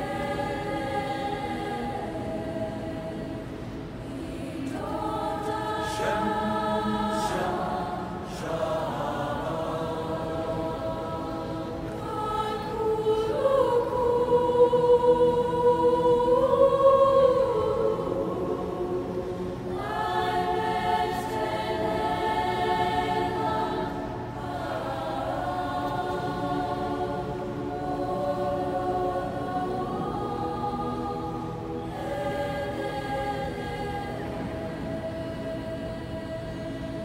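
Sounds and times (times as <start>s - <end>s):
men's choir singing: 0.0s - 37.0s.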